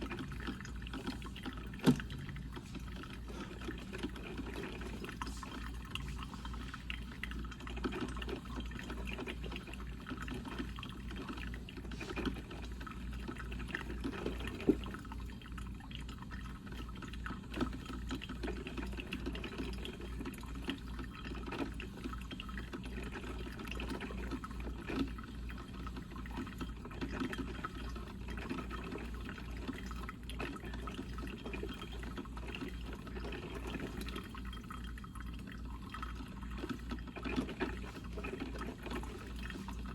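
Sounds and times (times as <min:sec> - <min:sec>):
percolator water gurgling: 0:00.0 - 0:39.9.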